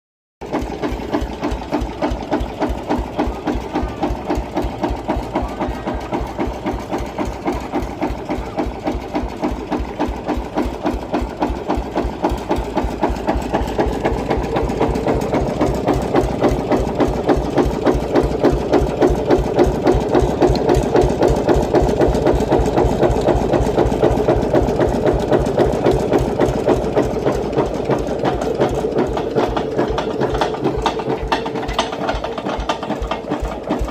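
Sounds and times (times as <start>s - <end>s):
diesel engine idling: 0.4s - 33.9s.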